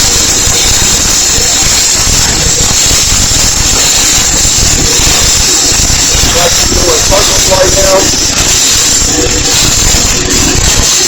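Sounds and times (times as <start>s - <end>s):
welder arc crackling: 0.0s - 11.0s.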